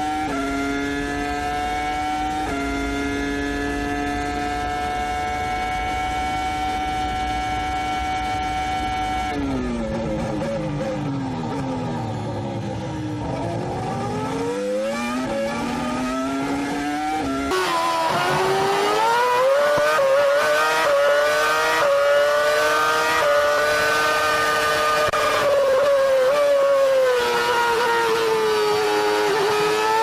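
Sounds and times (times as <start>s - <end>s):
racing car engine at high revs: 0.0s - 30.0s.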